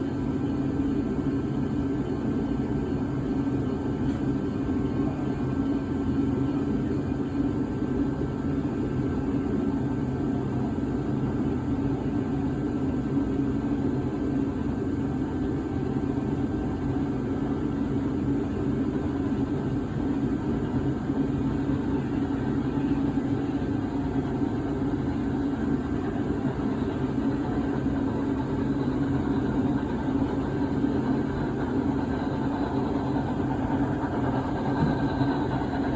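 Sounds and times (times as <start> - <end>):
model train humming: 0.0 - 35.9.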